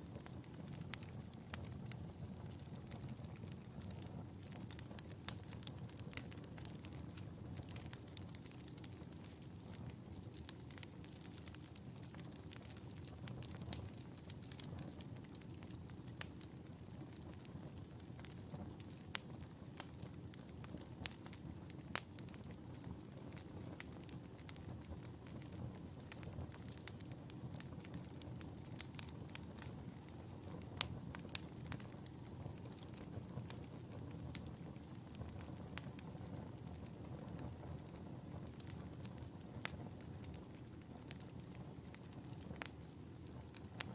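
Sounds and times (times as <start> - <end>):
fire snaps and pops: 0.0 - 43.9
low rumble of flames: 0.0 - 43.9.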